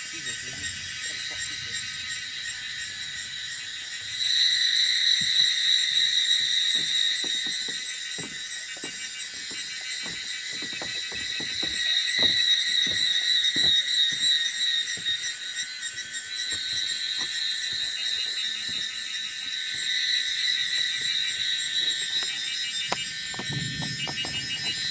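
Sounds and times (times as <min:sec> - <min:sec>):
insects chorus trilling: 0:00.0 - 0:24.9.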